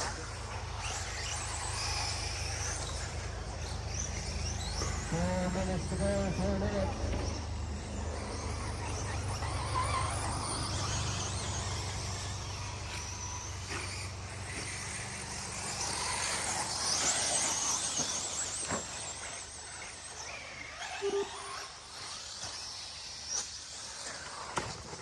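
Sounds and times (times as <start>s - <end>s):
rc truck motors whining: 0.0s - 25.0s.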